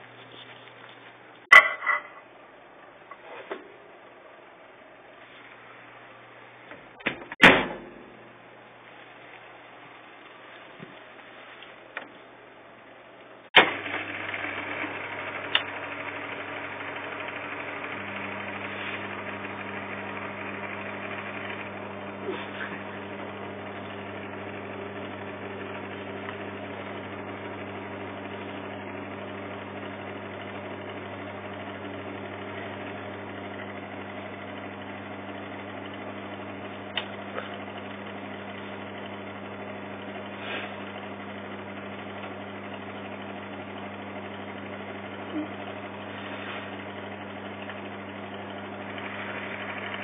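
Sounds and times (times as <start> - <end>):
microwave oven humming: 1.5 - 10.1, 12.0 - 50.0.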